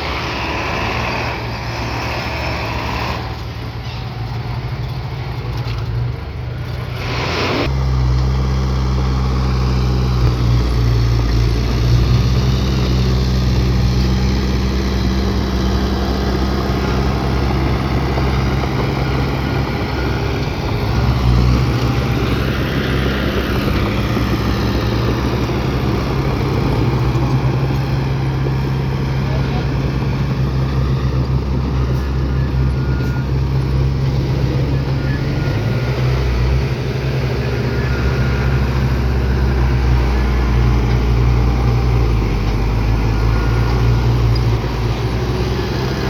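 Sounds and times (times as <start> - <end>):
heavy diesel engine droning: 0.0 - 46.0.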